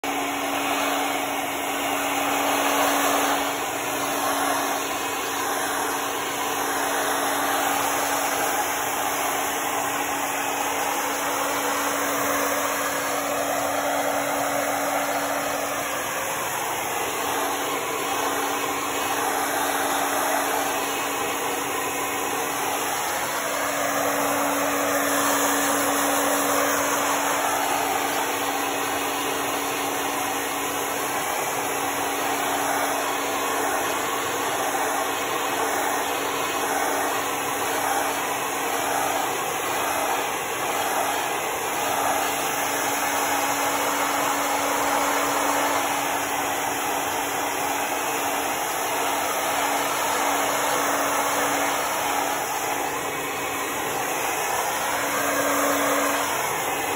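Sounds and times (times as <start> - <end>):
hair dryer blowing: 0.0 - 56.9.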